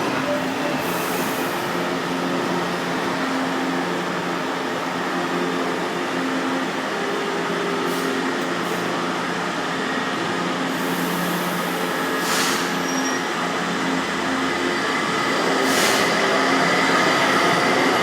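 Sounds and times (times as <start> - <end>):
metro train whirring and humming: 0.0 - 18.0.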